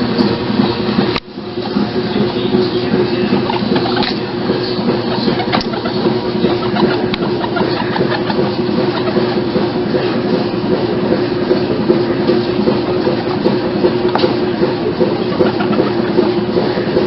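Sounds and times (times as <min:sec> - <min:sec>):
machine hum: 0:00.0 - 0:17.0
machine rattling: 0:00.0 - 0:17.0.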